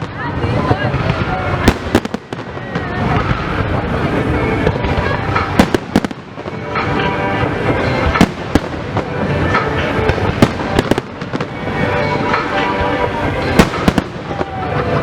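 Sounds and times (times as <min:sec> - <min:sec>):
fireworks sharp bangs: 0:00.0 - 0:15.0.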